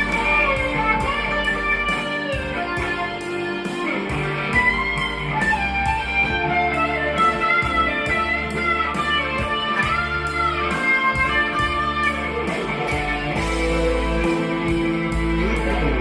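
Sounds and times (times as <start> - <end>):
backing beat and bass: 0.0 - 16.0
electric guitar lead with bending notes: 0.0 - 16.0.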